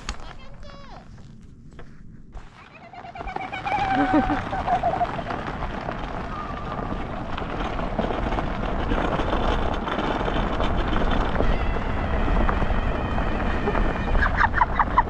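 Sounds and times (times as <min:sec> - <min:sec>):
wheels rumbling over gravel: 0:00.0 - 0:15.0
wind buffeting microphone: 0:00.0 - 0:15.0.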